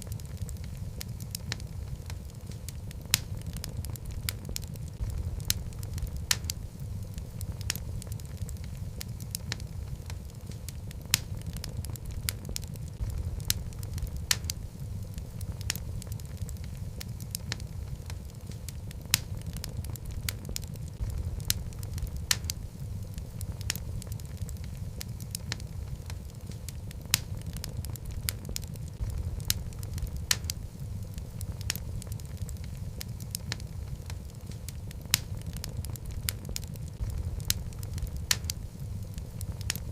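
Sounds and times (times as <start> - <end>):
flames rumbling: 0.0 - 39.9
logs crackling and popping: 0.0 - 39.9.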